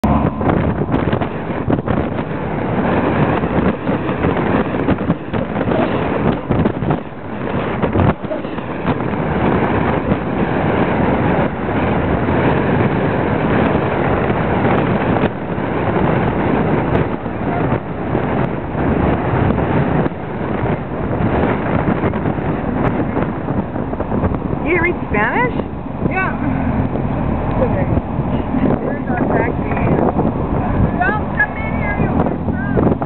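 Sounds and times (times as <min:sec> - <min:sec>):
vehicle road noise: 0:00.0 - 0:33.0
wind buffeting microphone: 0:00.0 - 0:33.0.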